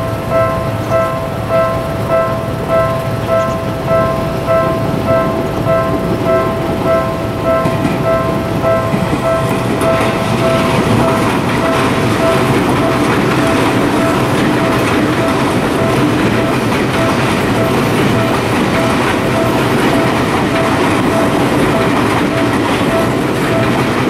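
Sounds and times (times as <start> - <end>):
level crossing bell dinging: 0.0 - 24.0
train rumble and wheel clatter: 0.0 - 24.0.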